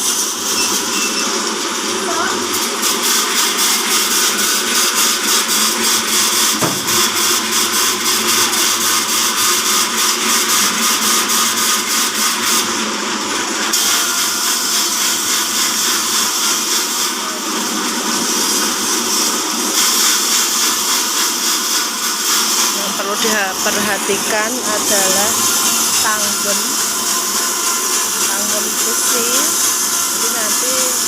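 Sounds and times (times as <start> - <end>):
band sawmill motor whirring: 0.0 - 31.0.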